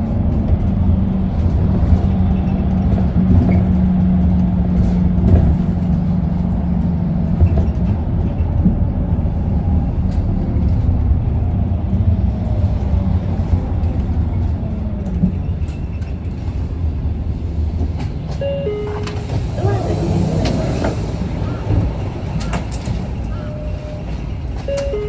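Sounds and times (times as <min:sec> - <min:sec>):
bus diesel engine rumble: 0:00.0 - 0:25.0.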